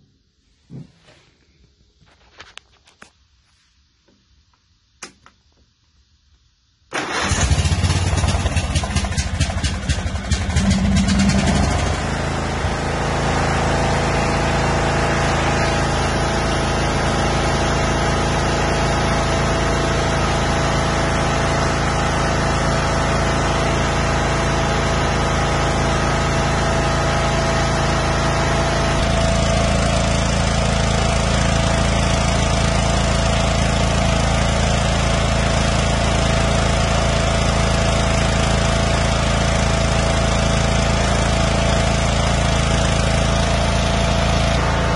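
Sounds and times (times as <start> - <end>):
lawn tractor engine running: 6.9 - 44.9.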